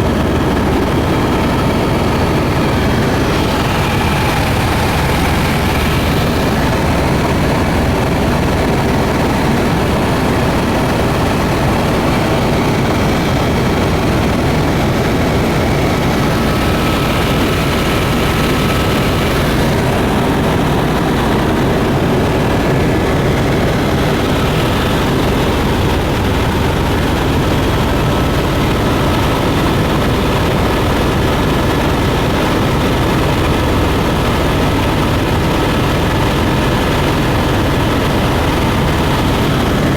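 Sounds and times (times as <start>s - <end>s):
faint steady whine: 0.0s - 39.9s
propeller airplane engine drone: 0.0s - 39.9s.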